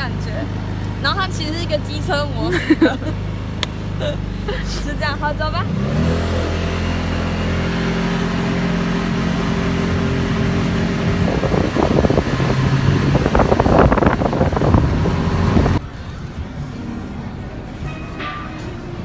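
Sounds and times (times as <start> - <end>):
go-kart engine running: 0.0 - 18.2.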